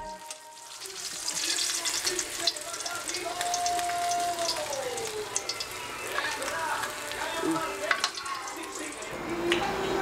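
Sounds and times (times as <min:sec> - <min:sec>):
fish sizzling in hot oil: 0:00.0 - 0:09.1.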